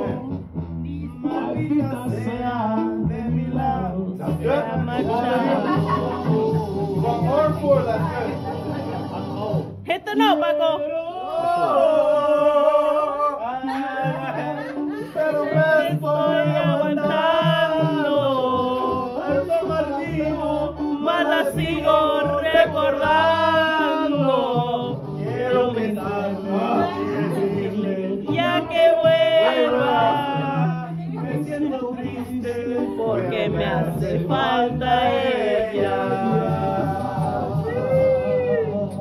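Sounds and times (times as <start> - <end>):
man singing with vibrato: 0.0 - 39.0
recorded backing music: 0.0 - 39.0.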